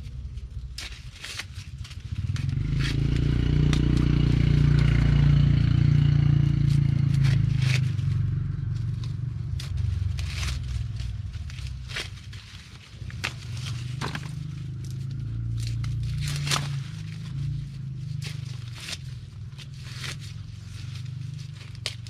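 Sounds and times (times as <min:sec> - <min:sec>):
sharp snaps and crackles: 0:00.0 - 0:22.0
small engine running: 0:00.0 - 0:22.0.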